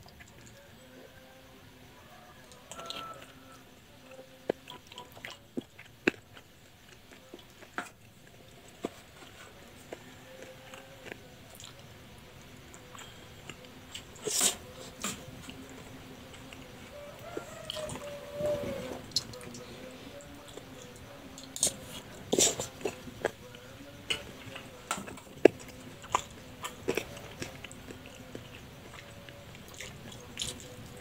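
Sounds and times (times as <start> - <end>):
person chewing wetly: 0.0 - 0.6, 2.4 - 18.1, 19.0 - 31.0.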